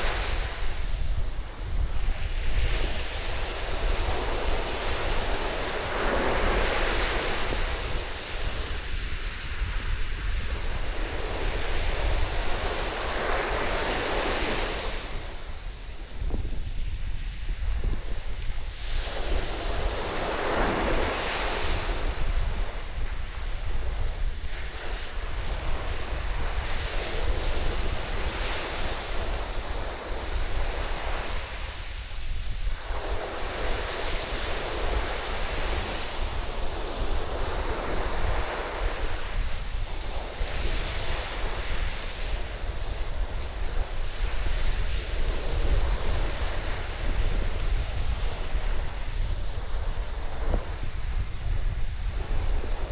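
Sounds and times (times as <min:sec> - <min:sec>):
waves breaking on beach: 0:00.0 - 0:52.9
wind buffeting microphone: 0:00.0 - 0:52.9.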